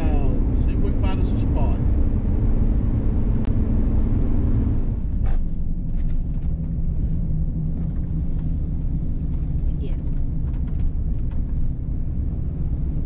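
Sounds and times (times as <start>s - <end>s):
vehicle driving on road: 0.0s - 13.0s.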